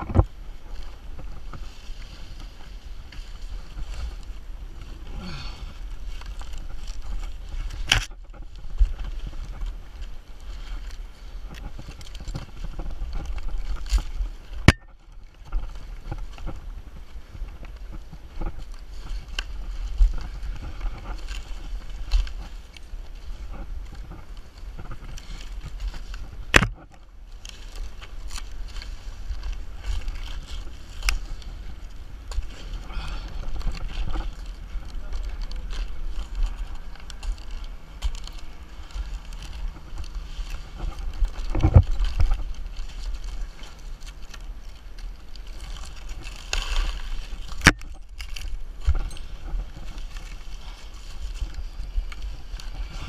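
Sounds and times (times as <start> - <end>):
dry palm fronds rustling: 0.0 - 53.0.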